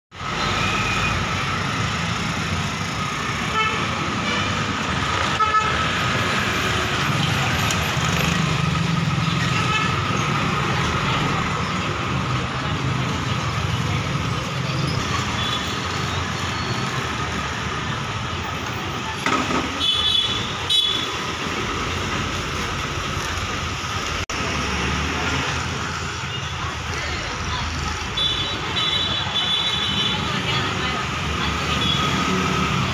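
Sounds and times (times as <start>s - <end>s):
bus diesel engines rumbling: 0.2s - 32.9s.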